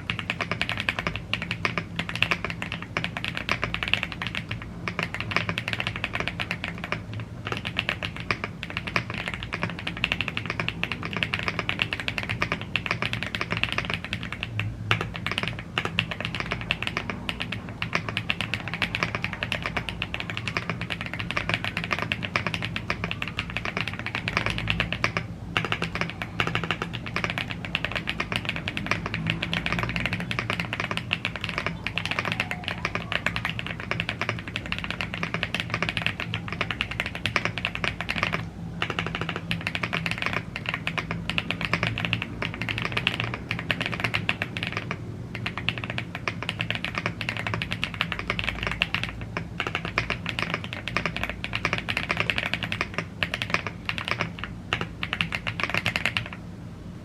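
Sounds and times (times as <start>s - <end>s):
mechanical keyboard typing: 0.0s - 56.5s.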